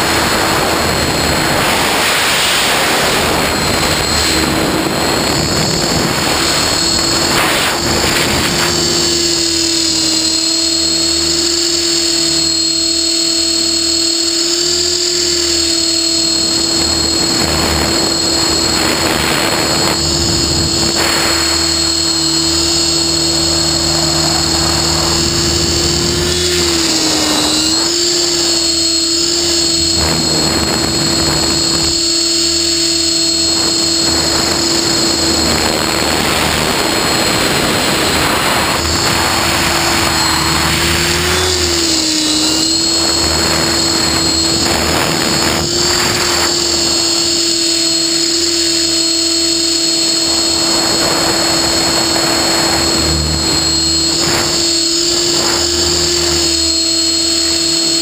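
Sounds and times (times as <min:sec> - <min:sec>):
electric motor whine: 0:00.0 - 0:58.0
rotor blades rushing: 0:00.0 - 0:58.0.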